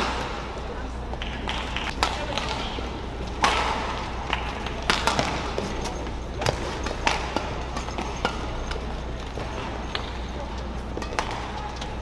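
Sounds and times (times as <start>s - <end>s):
indoor arena murmur: 0.0s - 12.0s
racket hitting shuttlecock: 1.2s - 10.2s, 10.9s - 12.0s.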